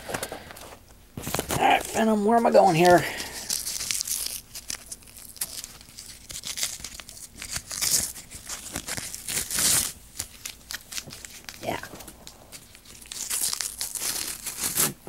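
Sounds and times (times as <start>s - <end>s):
material crinkling and rustling: 0.0s - 15.0s.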